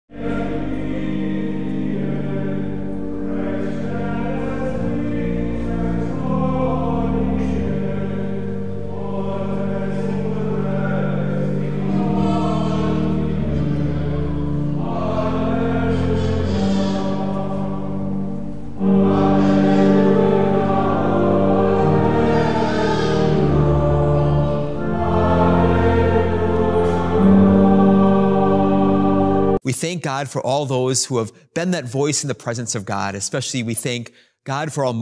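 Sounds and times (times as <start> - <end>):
choir singing sacred music: 0.1 - 29.7.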